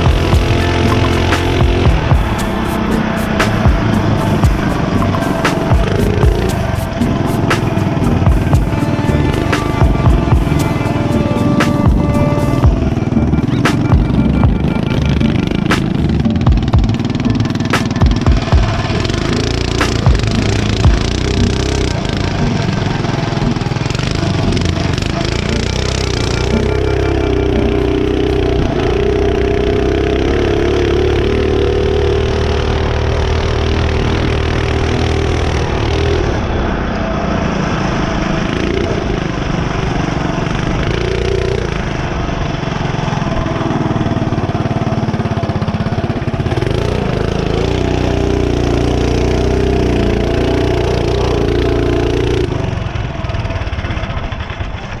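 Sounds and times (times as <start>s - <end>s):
small motorbike engine running: 0.0s - 55.0s.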